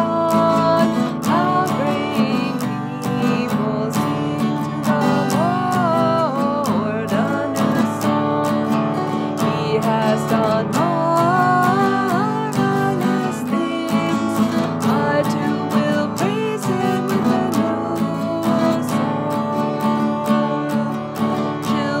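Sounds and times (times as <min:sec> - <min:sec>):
acoustic guitar strumming: 0:00.0 - 0:22.0
woman singing a hymn: 0:00.0 - 0:22.0.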